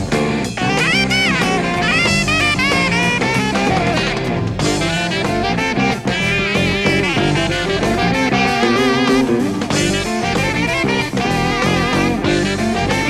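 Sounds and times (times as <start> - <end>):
rock band playing instrumental: 0.0 - 13.0.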